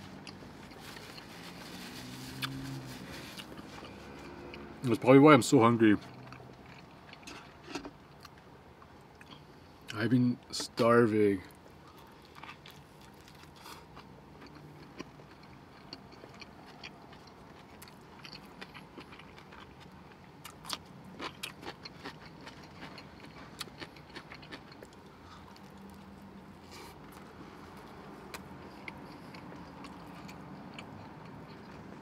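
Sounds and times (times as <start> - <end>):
man chewing a sandwich: 0.0 - 5.0, 6.0 - 10.0, 11.5 - 32.0.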